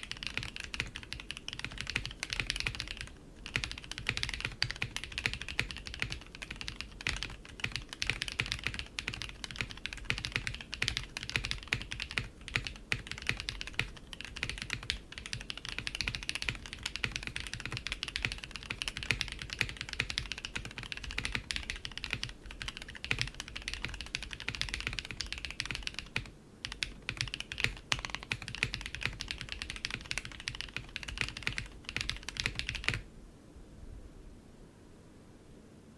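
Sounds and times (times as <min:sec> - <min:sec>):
mechanical keyboard typing: 0:00.0 - 0:33.0.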